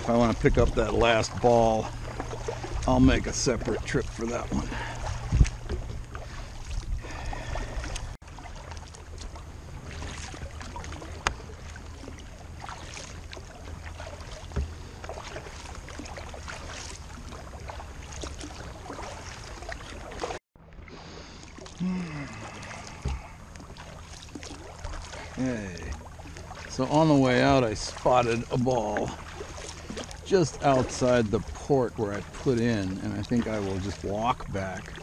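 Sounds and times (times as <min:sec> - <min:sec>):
paddle strokes in water: 0:00.0 - 0:35.0
water washing along hull: 0:00.0 - 0:35.0.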